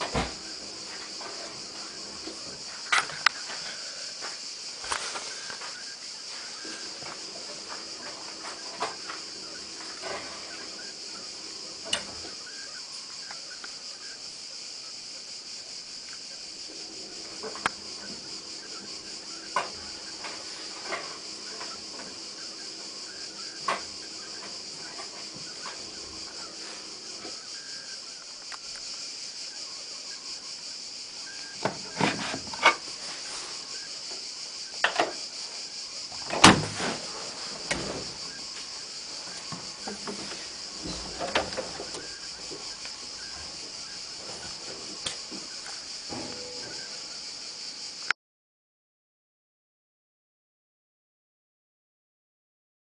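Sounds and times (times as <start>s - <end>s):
washing machine hiss: 0.0s - 48.1s.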